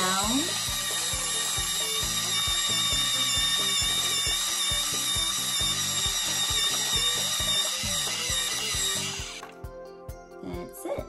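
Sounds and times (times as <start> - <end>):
electric pencil sharpener whine: 0.0 - 9.4.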